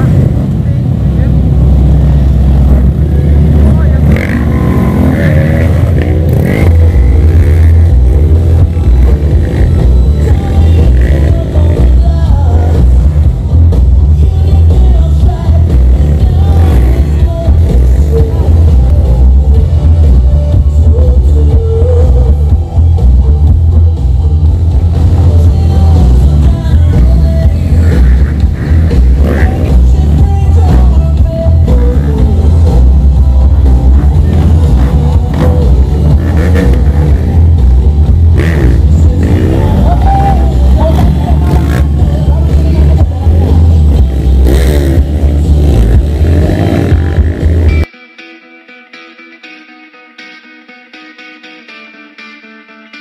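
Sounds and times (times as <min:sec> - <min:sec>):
deep low rumble: 0:00.0 - 0:47.9
motorcycle engines revving: 0:00.0 - 0:47.9
music with pulsing bass: 0:00.0 - 0:47.9.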